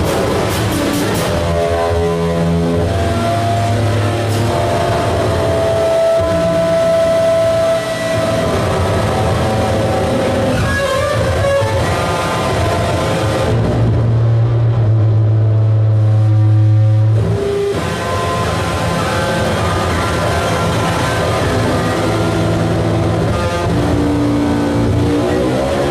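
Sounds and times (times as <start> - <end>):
droning tones: 0.0 - 25.9
heavy low hum: 0.0 - 25.9
layered electronic noise: 0.0 - 25.9.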